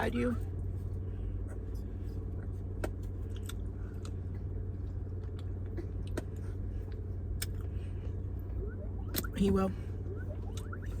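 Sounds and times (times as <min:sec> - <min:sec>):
car engine hum: 0:00.0 - 0:11.0.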